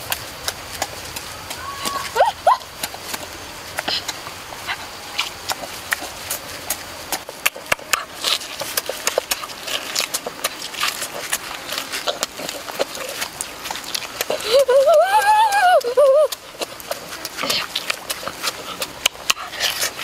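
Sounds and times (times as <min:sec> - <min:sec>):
wet chewing and lip-smacking: 0:00.0 - 0:20.0
biting into crispy skin: 0:02.7 - 0:20.0.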